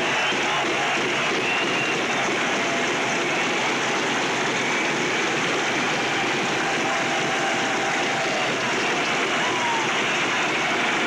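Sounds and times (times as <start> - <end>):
audience applauding and cheering: 0.0 - 11.0.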